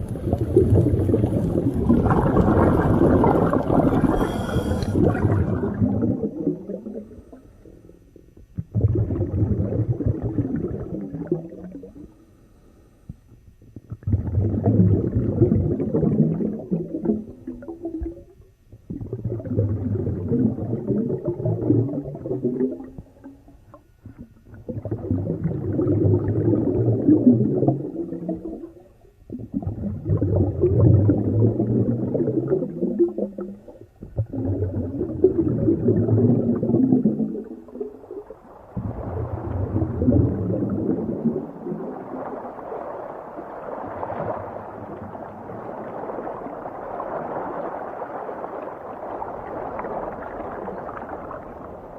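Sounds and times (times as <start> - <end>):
underwater bubbling and gurgling: 0.0 - 51.9.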